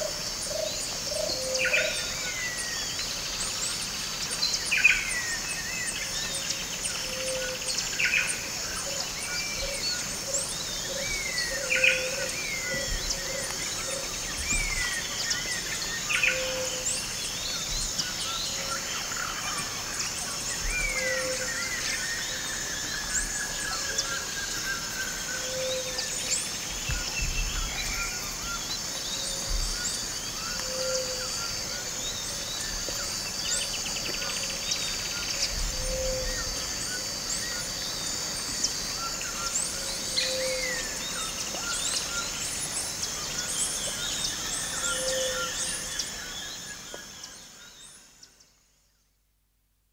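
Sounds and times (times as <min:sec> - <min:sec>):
insect drone: 0:00.0 - 0:49.2.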